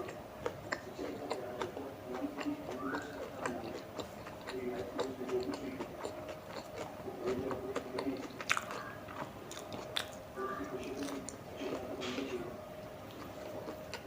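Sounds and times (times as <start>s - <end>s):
mouth chewing with wet clicks: 0.0s - 14.0s.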